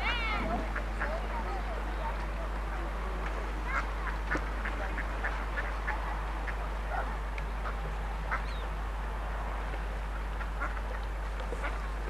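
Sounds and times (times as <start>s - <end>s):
ducks quacking: 0.0s - 8.8s, 9.7s - 12.0s
steady low hum: 0.0s - 12.0s.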